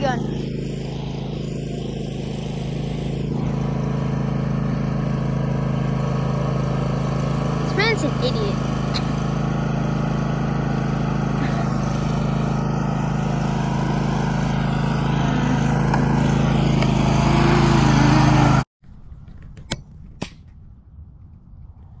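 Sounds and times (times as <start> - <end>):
small engine running: 0.0 - 18.7.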